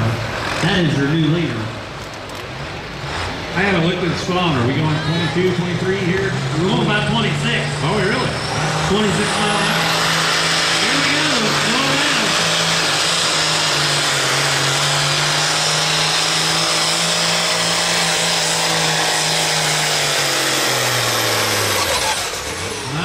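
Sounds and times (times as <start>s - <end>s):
tractor diesel engine at full power: 0.0s - 23.0s.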